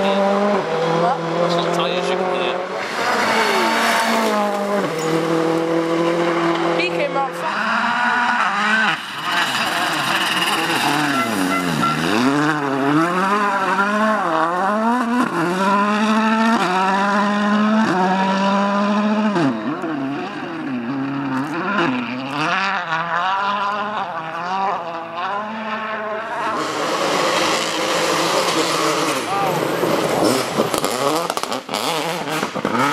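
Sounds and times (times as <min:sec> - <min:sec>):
rally car engine revving hard: 0:00.0 - 0:32.9.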